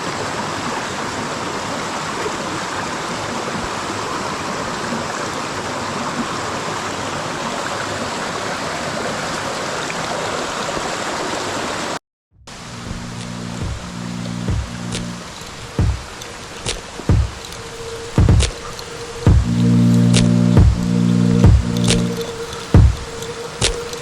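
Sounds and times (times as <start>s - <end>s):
stream water rushing: 0.0s - 12.0s, 12.6s - 24.0s.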